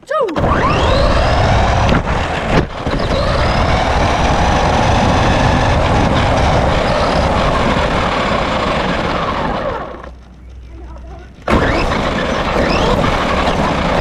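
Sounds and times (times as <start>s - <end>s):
tyre rumble: 0.3s - 14.0s
rc car electric motor whining: 0.4s - 10.6s, 11.3s - 14.0s
heavy wind: 0.4s - 14.0s.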